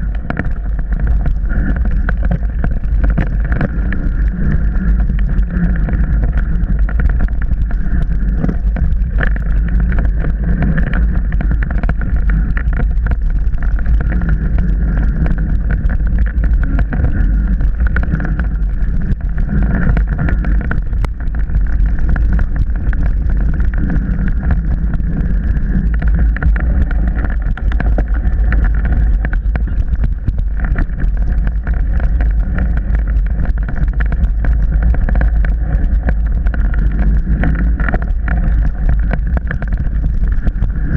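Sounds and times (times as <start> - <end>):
bike rattling and knocking: 0.0 - 40.9
wind rumble on microphone: 0.0 - 40.9.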